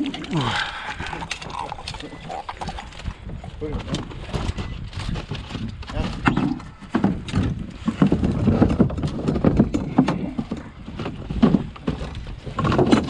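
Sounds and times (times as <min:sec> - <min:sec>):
gear knocking and clunking: 0:00.0 - 0:13.0.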